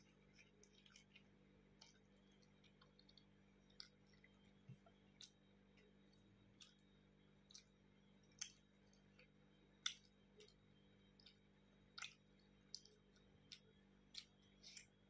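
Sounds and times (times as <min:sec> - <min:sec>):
person chewing with mouth smacks: 0:00.0 - 0:06.8, 0:07.5 - 0:15.0.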